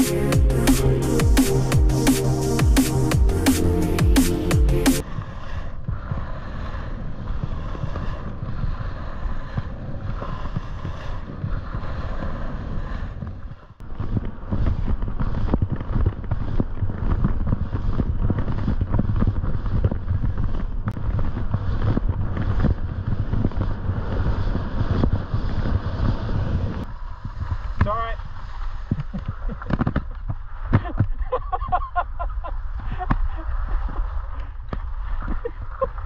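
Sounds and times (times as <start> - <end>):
skis scraping on snow: 0.0 - 36.0
wind on microphone: 5.0 - 36.0.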